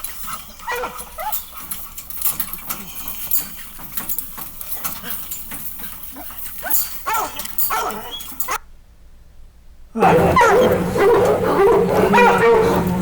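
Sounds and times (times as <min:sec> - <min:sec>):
hounds barking and baying: 0:00.0 - 0:08.6, 0:10.0 - 0:13.0.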